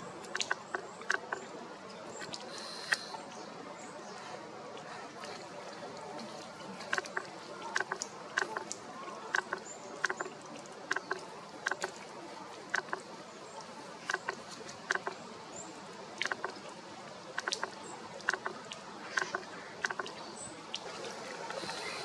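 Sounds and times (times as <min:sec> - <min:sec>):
outdoor background: 0:00.0 - 0:22.0.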